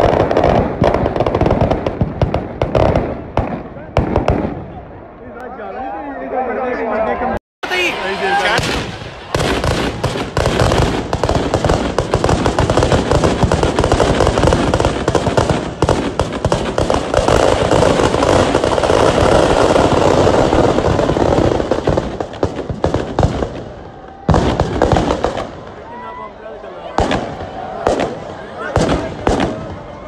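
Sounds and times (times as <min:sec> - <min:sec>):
firecrackers banging and crackling: 0:00.0 - 0:04.8, 0:07.6 - 0:25.9, 0:26.8 - 0:30.0.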